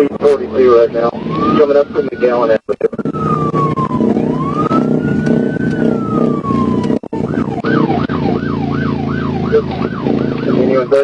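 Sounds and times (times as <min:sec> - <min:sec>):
car engine and road noise: 0:00.0 - 0:11.0
police siren wailing and yelping: 0:00.5 - 0:11.0.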